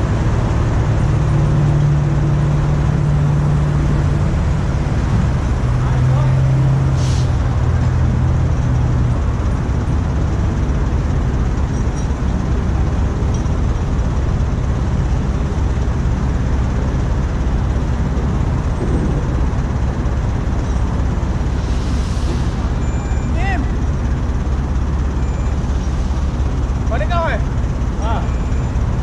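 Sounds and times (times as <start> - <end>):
heavy diesel engine rumbling: 0.0 - 29.0.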